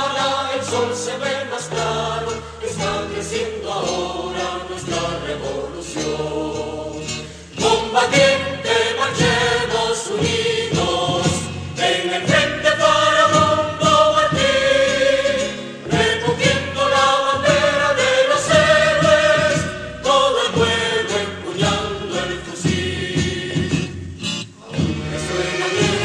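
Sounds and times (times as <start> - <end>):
choir singing a marching anthem: 0.0 - 24.0, 24.6 - 26.0
musical accompaniment: 0.0 - 26.0.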